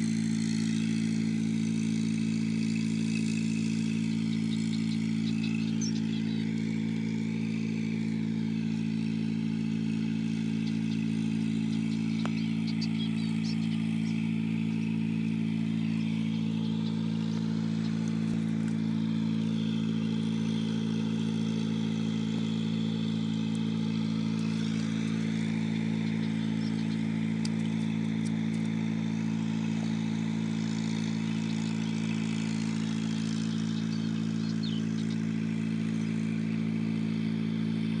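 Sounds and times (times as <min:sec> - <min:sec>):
motor running steadily: 0:00.0 - 0:38.0.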